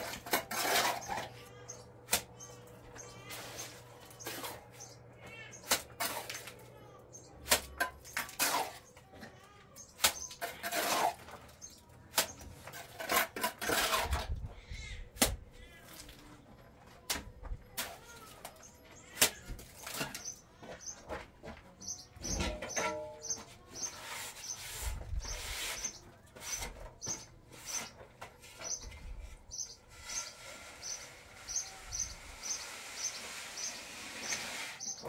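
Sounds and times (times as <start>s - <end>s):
plastering tools scraping: 0.0s - 6.6s, 7.5s - 9.0s, 9.8s - 14.5s, 17.8s - 35.0s.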